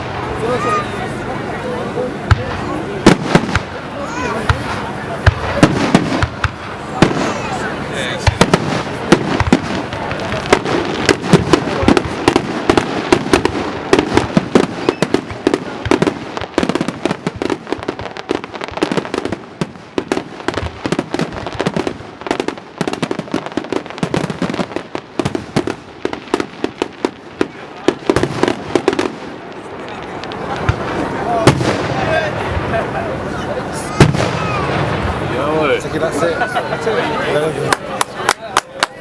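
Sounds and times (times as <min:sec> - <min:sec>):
fireworks crackling bangs: 0:00.0 - 0:39.0.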